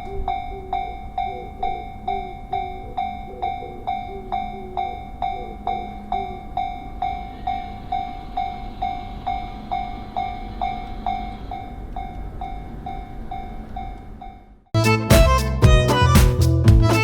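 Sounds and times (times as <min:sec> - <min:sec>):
level crossing bell clanging: 0:00.0 - 0:14.6
train rumbling past: 0:00.0 - 0:14.7.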